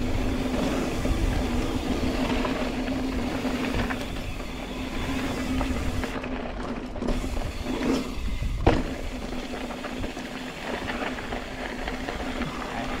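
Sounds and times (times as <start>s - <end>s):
bike rattles: 0.0s - 13.0s
bike tyre rumble on dirt: 0.0s - 13.0s
wind noise on microphone: 0.0s - 13.0s.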